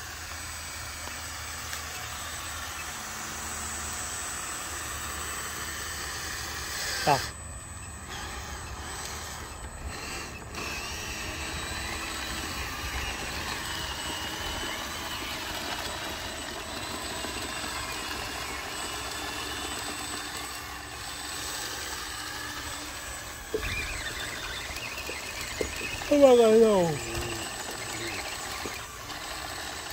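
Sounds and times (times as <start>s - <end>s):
faint wavering whine: 0.0s - 29.9s
small electric motors whirring: 0.0s - 29.9s.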